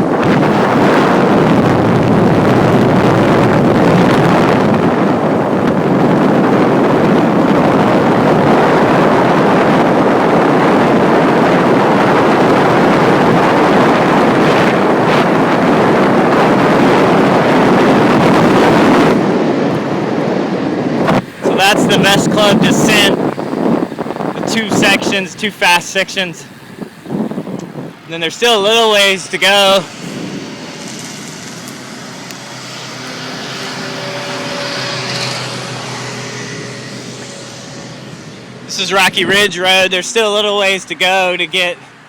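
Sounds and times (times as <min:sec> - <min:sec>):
wind rush on microphone: 0:00.0 - 0:42.0.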